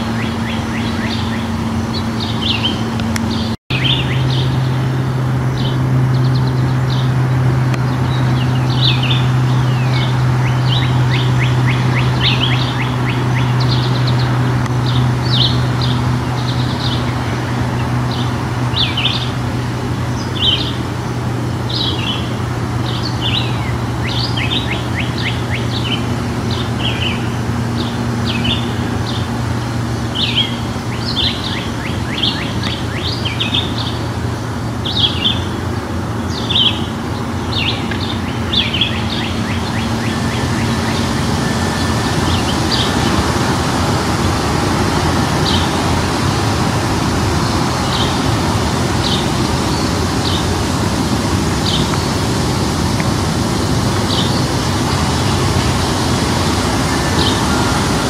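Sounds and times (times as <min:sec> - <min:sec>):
songbirds chirping: 0:00.0 - 0:58.0
steady low hum: 0:00.0 - 0:58.0.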